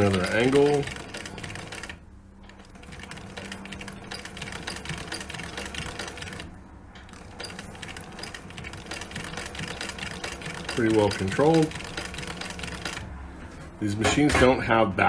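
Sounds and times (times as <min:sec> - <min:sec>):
sewing machine needle clatter: 0:00.0 - 0:06.4, 0:07.1 - 0:13.0
sewing machine motor hum: 0:00.0 - 0:13.1.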